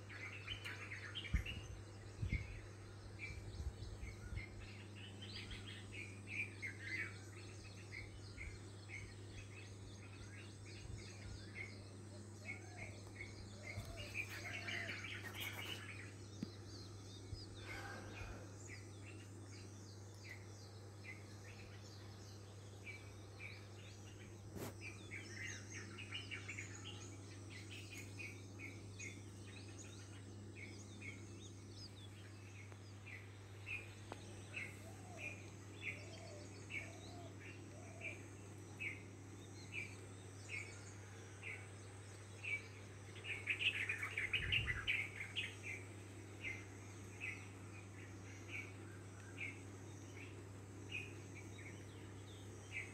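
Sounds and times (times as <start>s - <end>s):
bird chirping: 0.0s - 52.9s
flurry of bird chirps: 0.0s - 52.9s
steady low hum: 0.0s - 52.9s.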